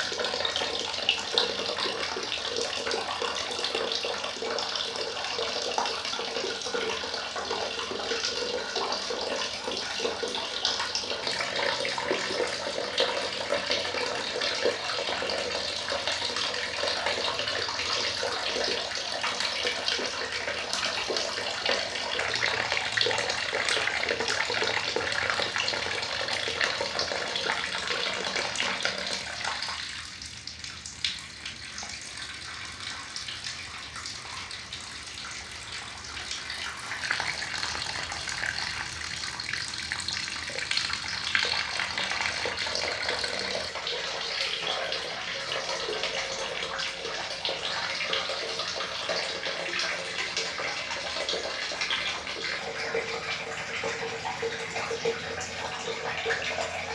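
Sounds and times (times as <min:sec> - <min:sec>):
running water splashing: 0:00.0 - 0:56.9.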